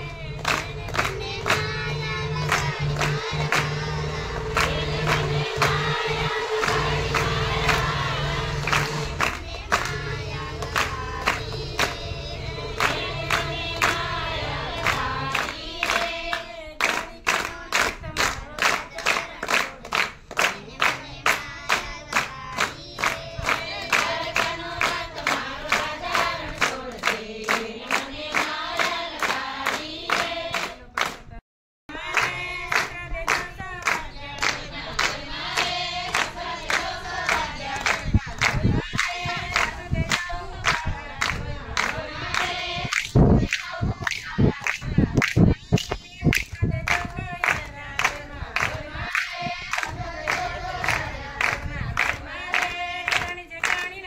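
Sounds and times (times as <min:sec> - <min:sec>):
group singing devotional song: 0:00.0 - 0:31.2, 0:31.9 - 0:54.0
hand claps: 0:00.1 - 0:54.0.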